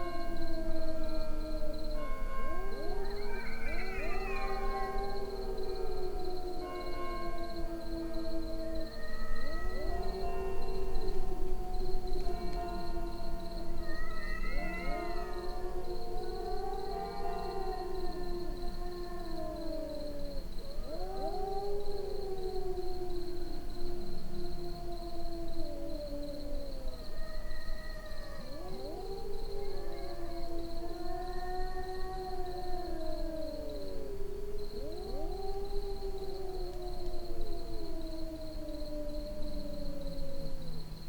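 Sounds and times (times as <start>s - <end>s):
cats wailing: 0.0s - 23.2s, 24.8s - 40.1s.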